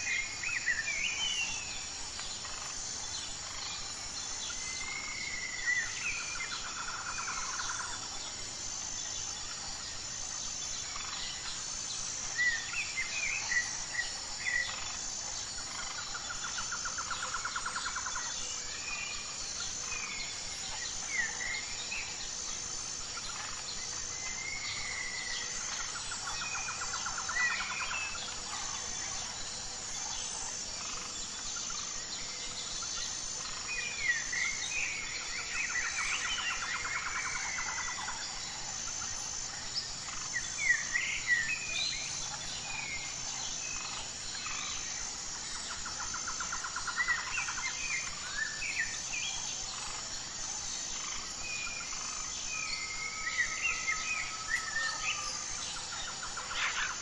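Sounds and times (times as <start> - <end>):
pulsing insect chorus: 0.0 - 57.0.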